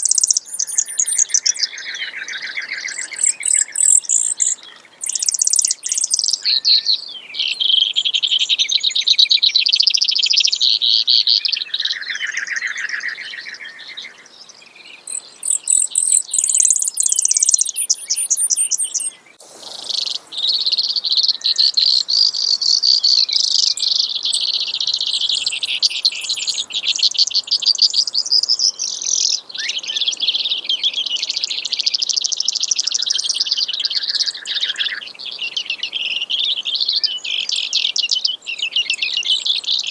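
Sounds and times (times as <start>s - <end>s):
sparrow singing trills: 0.0s - 39.9s.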